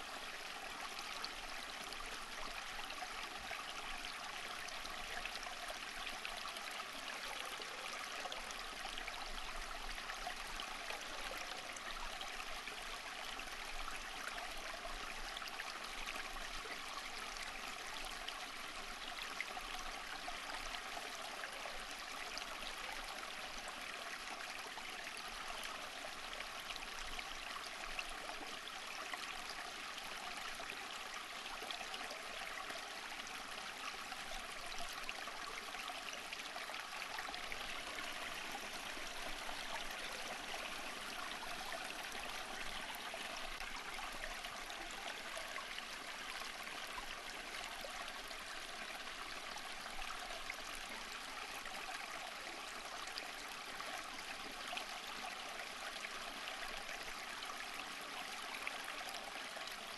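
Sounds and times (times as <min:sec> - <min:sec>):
water flowing over rocks: 0:00.0 - 0:59.9.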